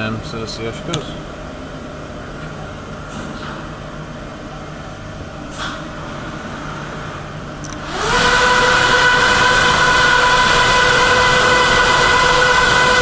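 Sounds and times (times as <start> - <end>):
machine hum: 0.0 - 13.0
rising fan whine: 0.0 - 13.0.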